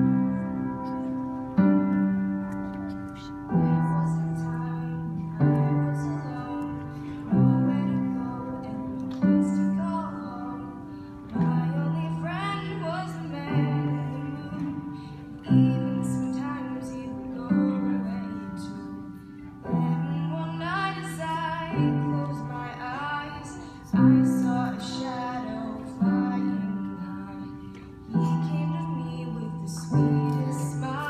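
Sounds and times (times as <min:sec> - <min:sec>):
piano playing slow chords: 0:00.0 - 0:31.0
woman singing: 0:03.1 - 0:31.0.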